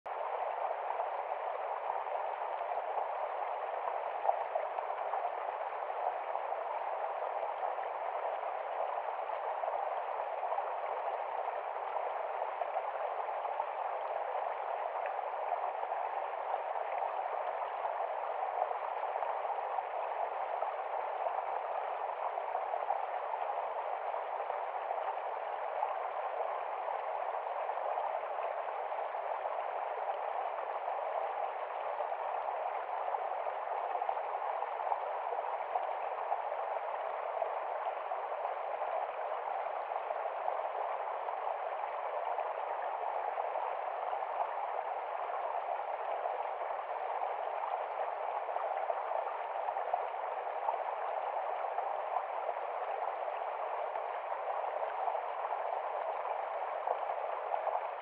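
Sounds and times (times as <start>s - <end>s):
stream running over rocks: 0.1s - 58.0s.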